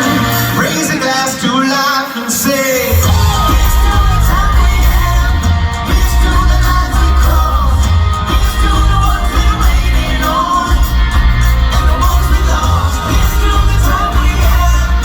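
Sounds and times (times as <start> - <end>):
crowd shouting: 0.0 - 15.0
lead vocalist singing: 0.0 - 15.0
live rock band: 0.0 - 15.0.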